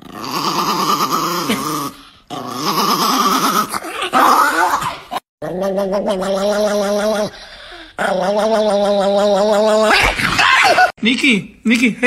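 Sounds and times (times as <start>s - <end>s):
dog growling and grumbling: 0.0s - 10.0s.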